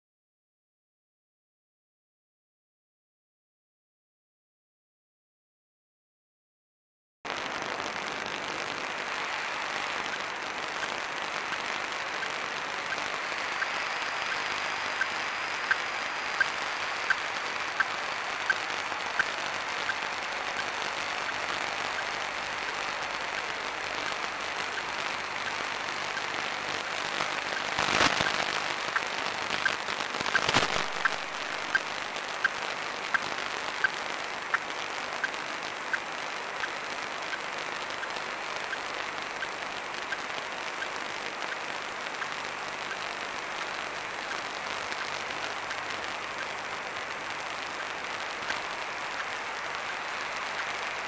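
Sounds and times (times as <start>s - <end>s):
radio static hiss: 7.3s - 51.0s.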